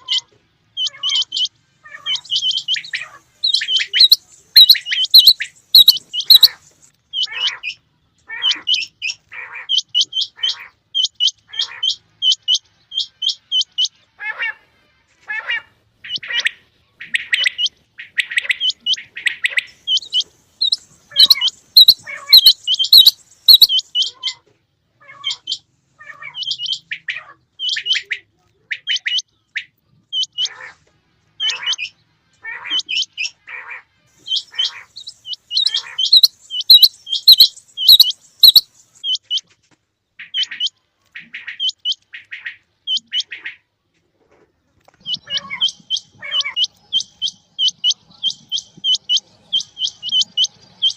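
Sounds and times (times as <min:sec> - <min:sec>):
quail calling: 0:00.0 - 0:24.4, 0:31.4 - 0:39.5, 0:40.2 - 0:43.7, 0:45.0 - 0:50.9.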